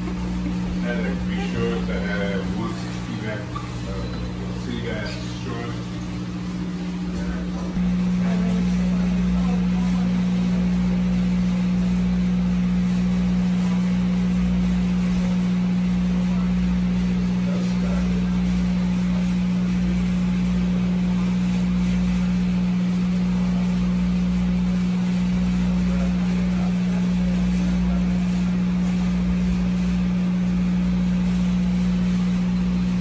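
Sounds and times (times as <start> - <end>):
boat engine drone: 0.0 - 33.0.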